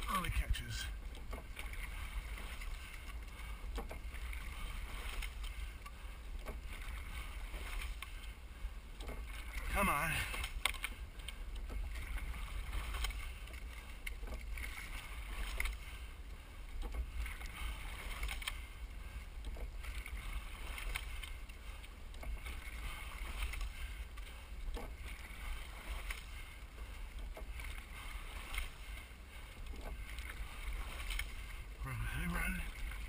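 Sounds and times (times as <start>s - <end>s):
oar stroke knocks: 0.0s - 8.2s, 8.9s - 33.0s
water rushing along hull: 0.0s - 33.0s.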